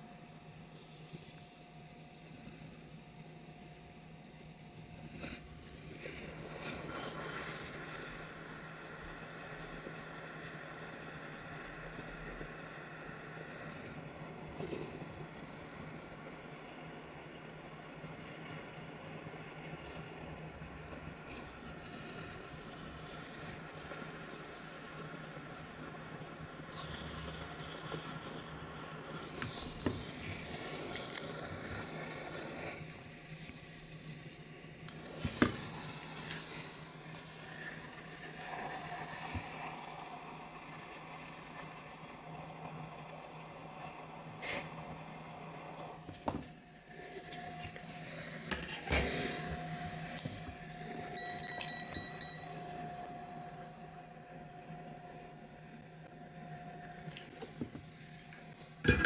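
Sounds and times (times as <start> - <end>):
faint constant hum: 0.0 - 59.0
hot air blower: 0.0 - 59.0.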